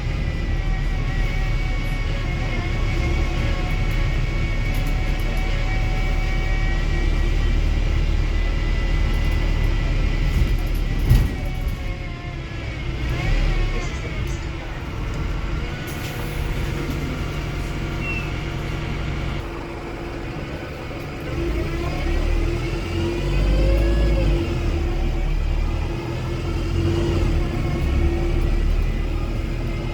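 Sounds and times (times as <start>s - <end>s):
diesel bus engine rumble: 0.0s - 29.9s
drivetrain whine: 0.0s - 29.9s.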